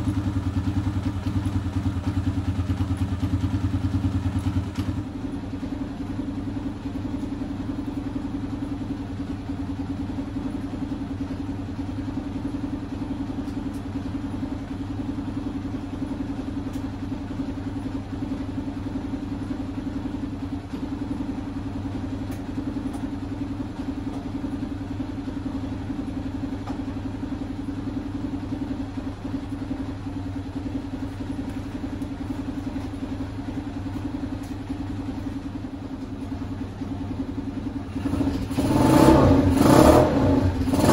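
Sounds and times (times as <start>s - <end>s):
auto rickshaw engine idling: 0.0s - 38.8s.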